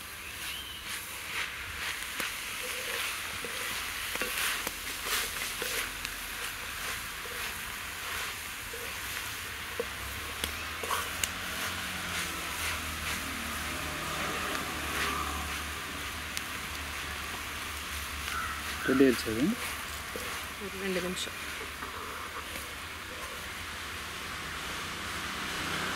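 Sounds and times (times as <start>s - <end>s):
leaves and coconut sizzling in pan: 0.0s - 25.9s
wooden spatula scraping pan: 0.4s - 16.2s, 18.0s - 23.5s.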